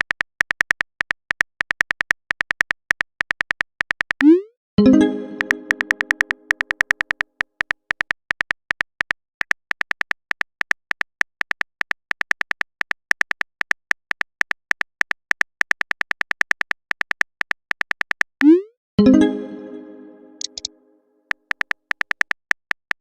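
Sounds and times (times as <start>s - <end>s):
high-pitched typing ticks: 0.0s - 18.7s, 20.4s - 20.7s.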